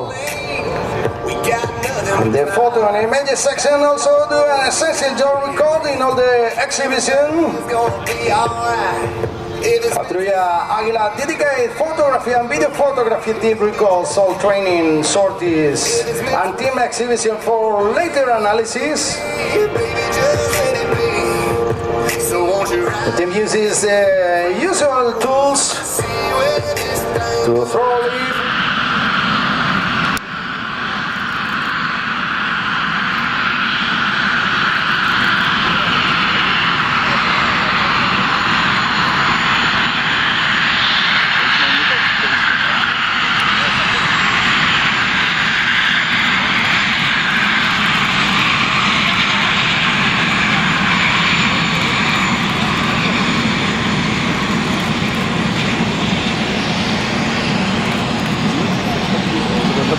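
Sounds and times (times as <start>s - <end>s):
faint high whine: 0.0s - 59.9s
jet engines running: 0.0s - 59.9s.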